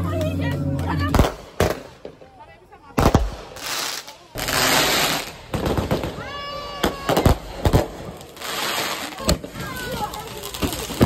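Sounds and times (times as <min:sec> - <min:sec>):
crackling fireworks: 0:01.0 - 0:11.0
firework bangs: 0:01.1 - 0:11.0.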